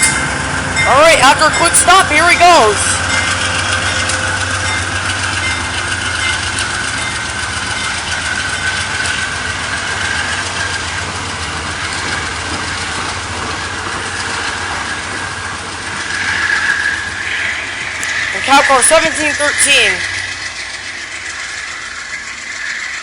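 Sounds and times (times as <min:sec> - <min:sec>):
diesel locomotive drone: 0:00.0 - 0:23.0
locomotive high whine: 0:00.0 - 0:23.0
train rolling: 0:00.0 - 0:23.0.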